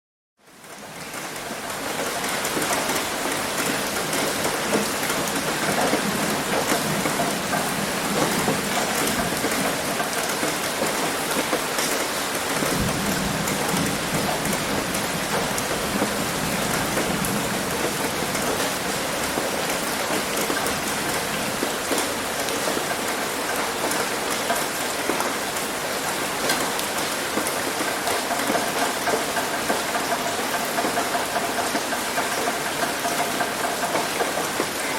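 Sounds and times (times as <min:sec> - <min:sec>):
heavy rain on a roof: 0:00.4 - 0:34.9
rain splashing on concrete: 0:00.4 - 0:34.9.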